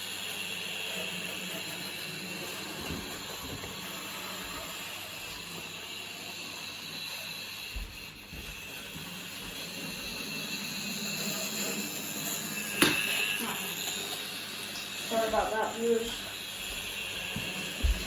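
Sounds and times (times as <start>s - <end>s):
model train motor and wheels on rails: 0.0s - 18.0s
thin high whine: 0.0s - 18.0s.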